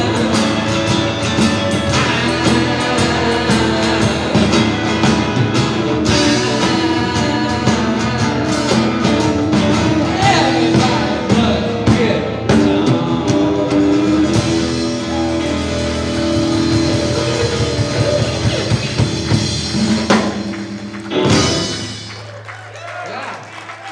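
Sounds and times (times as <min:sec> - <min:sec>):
live rock band playing: 0:00.0 - 0:22.8.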